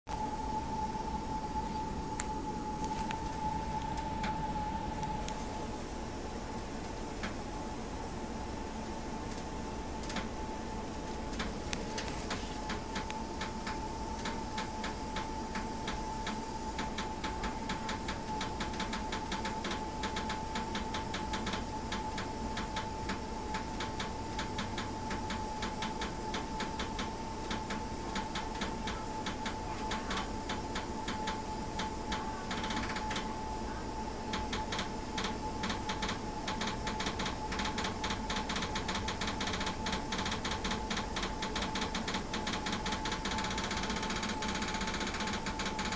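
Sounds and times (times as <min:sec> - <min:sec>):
steady high whine: 0:00.1 - 0:45.9.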